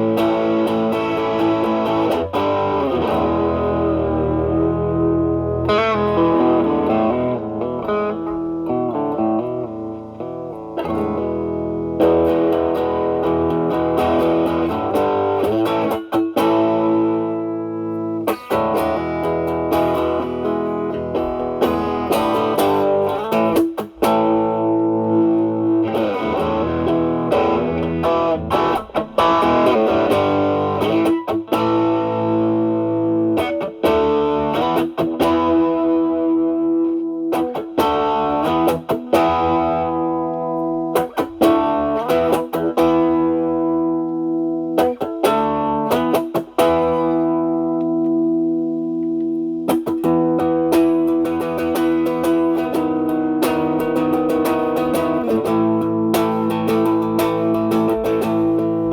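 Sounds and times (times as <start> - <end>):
overdriven electric guitar lead: 0.0 - 58.9.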